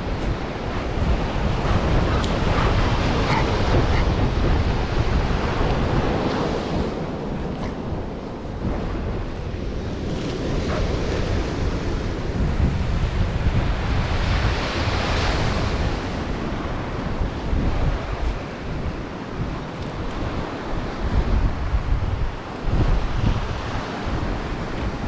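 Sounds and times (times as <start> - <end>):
ocean surf washing onto beach: 0.0 - 25.0
wind buffeting microphone: 0.0 - 25.0.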